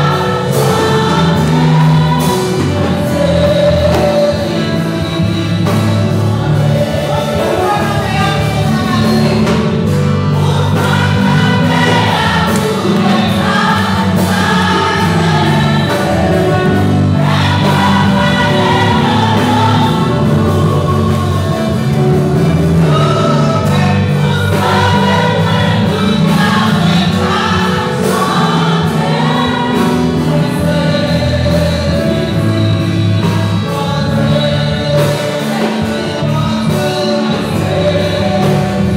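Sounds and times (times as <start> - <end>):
accompanying music: 0.0 - 38.9
congregation singing: 0.0 - 38.9.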